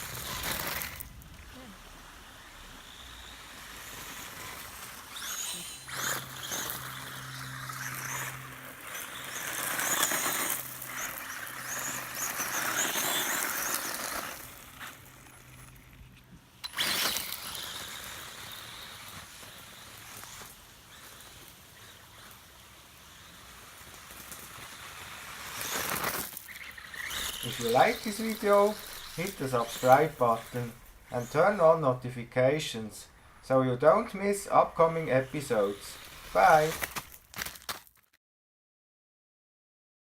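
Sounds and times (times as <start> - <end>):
electric motor whine: 0.0 - 16.0, 16.6 - 31.7, 33.2 - 37.0
tyre noise: 0.0 - 37.9.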